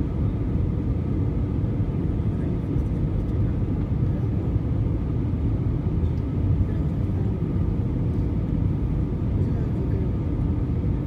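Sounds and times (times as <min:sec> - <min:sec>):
low rumble of engines and airflow: 0:00.0 - 0:11.0.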